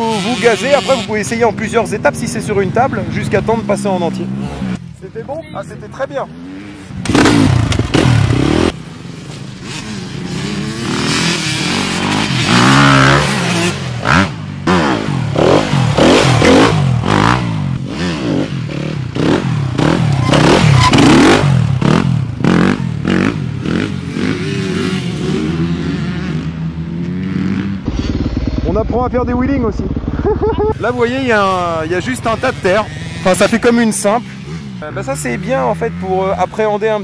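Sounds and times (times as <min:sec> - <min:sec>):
dirt bike engine revving: 0:00.0 - 0:04.9, 0:06.2 - 0:36.7.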